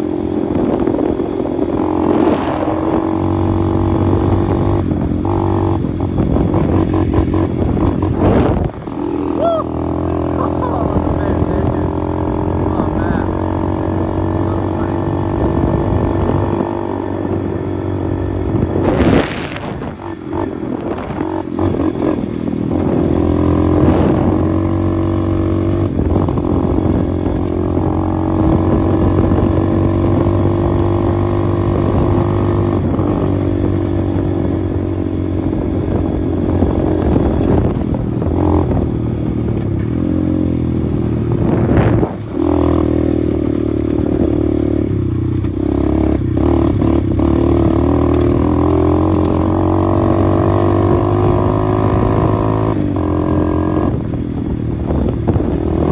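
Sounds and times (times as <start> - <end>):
motorbike engine running: 0.0 - 55.9.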